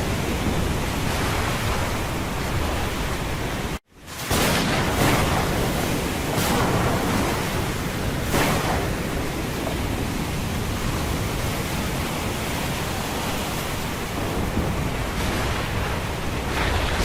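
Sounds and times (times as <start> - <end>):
heavy sea: 0.0 - 17.0
storm wind rushing: 0.0 - 17.0.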